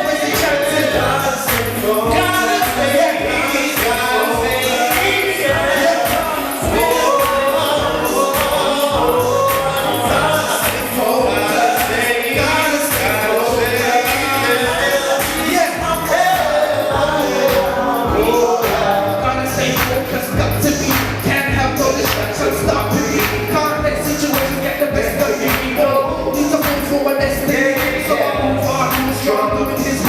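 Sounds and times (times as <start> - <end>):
band with steady drum beat: 0.0 - 30.0
gospel singing: 0.0 - 30.0.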